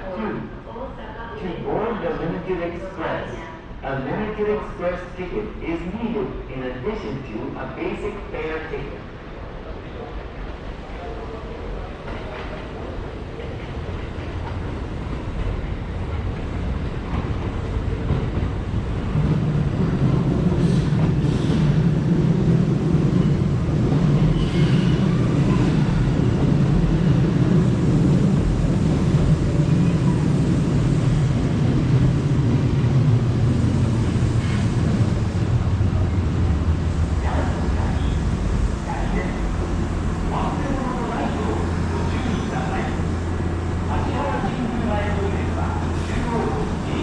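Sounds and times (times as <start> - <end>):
train wheels and motors rumbling: 9.2 - 47.0.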